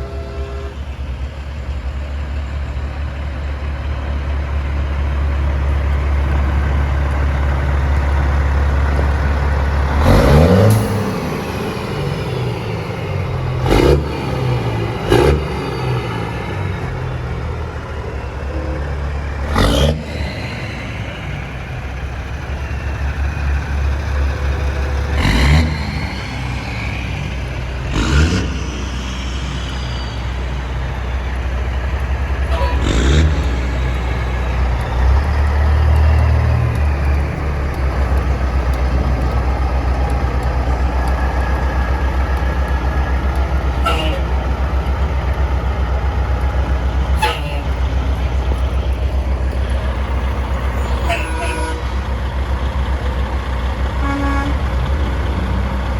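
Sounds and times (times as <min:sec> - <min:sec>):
truck diesel engines passing: 0:00.0 - 0:55.9.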